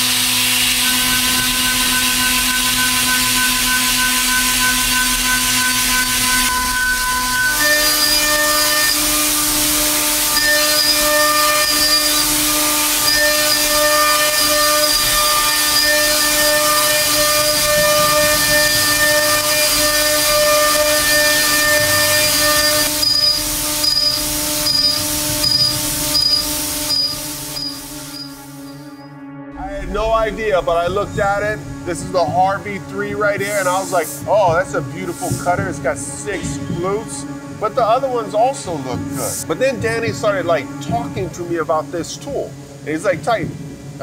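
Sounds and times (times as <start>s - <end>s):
milling machine whine over hiss: 0.0s - 44.0s.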